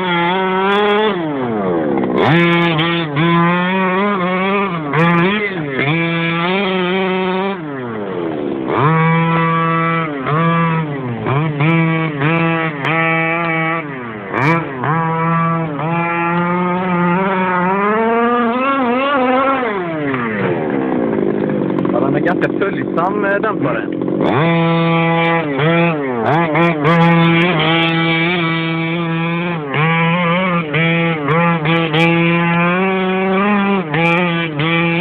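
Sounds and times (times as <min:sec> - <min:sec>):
two-stroke rc truck engine revving: 0:00.0 - 0:35.0.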